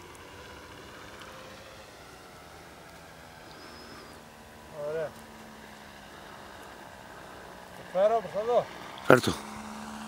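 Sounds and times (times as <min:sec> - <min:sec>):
model airplane engine droning: 0:00.0 - 0:10.0.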